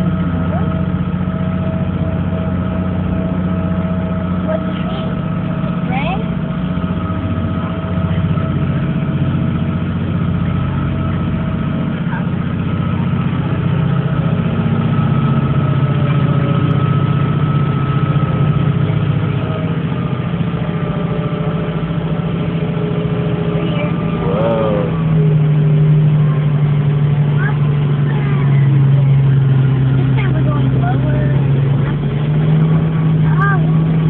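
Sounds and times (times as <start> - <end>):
low engine drone: 0.0 - 34.0.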